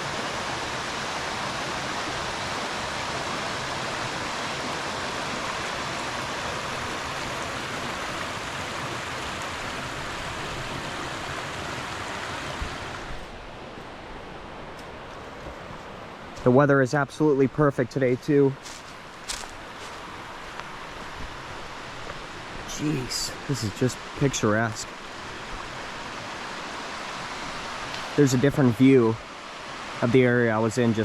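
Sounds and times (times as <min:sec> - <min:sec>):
creek water rushing over rocks: 0:00.0 - 0:31.0.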